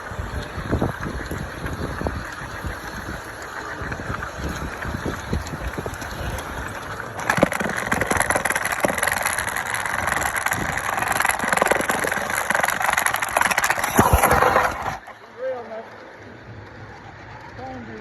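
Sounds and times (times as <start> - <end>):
model train rattling on track: 0.0 - 18.0.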